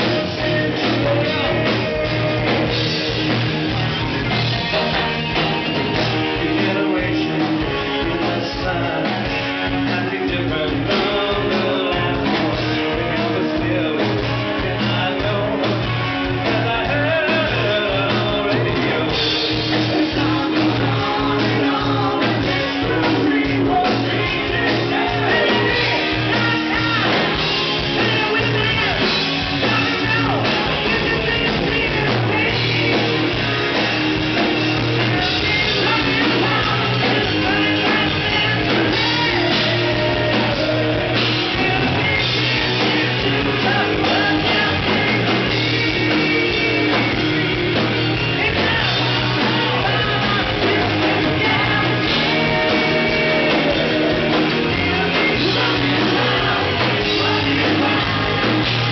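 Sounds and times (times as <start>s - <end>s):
loud electric guitars: 0.0s - 58.9s
low bass line: 0.0s - 58.9s
person singing: 0.0s - 58.9s.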